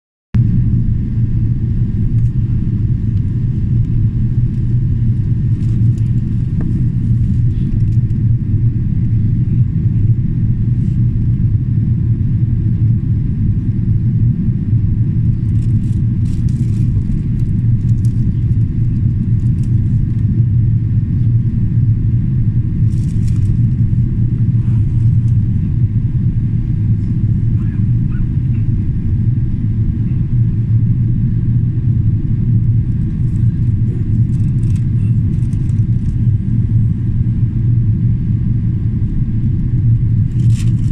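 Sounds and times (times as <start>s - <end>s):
aircraft cabin drone: 0.4s - 40.9s.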